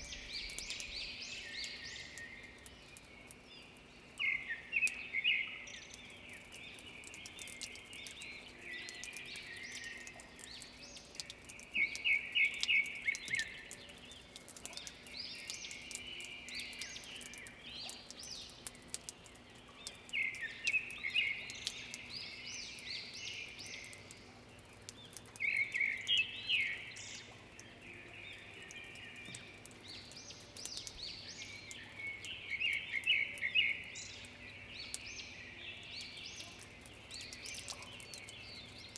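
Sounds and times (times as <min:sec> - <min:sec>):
birds chirping softly: 0:00.0 - 0:38.9
water drips ticking: 0:00.0 - 0:38.9.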